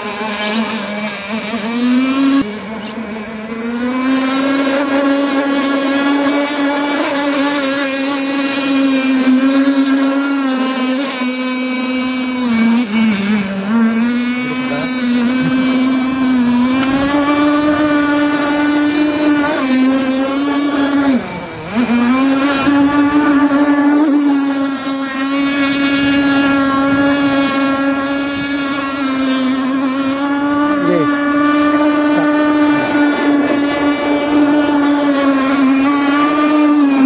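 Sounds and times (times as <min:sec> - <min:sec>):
model boat engine whining: 0:00.0 - 0:37.0.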